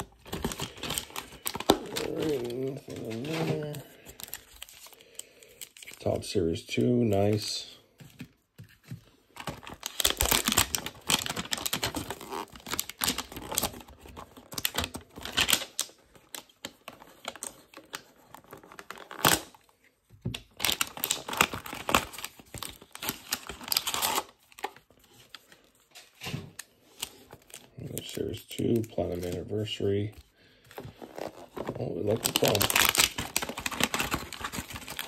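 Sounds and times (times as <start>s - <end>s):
plastic wrap crinkling and tearing: 0.0s - 7.8s, 8.7s - 35.0s.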